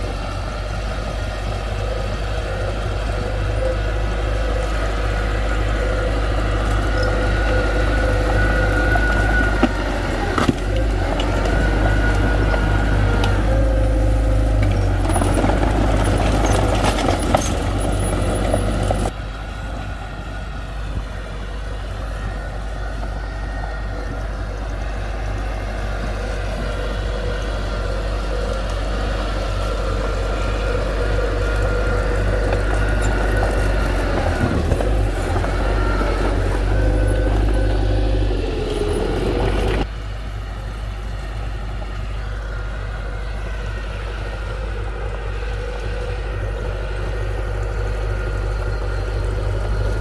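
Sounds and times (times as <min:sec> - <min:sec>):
diesel engines rumbling: 0:00.0 - 0:50.0
steady machine whine: 0:00.0 - 0:50.0.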